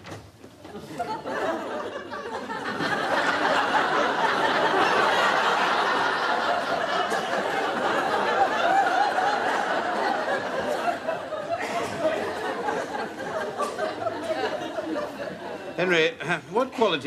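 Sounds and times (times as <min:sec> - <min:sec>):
studio audience laughing: 0:00.8 - 0:15.9.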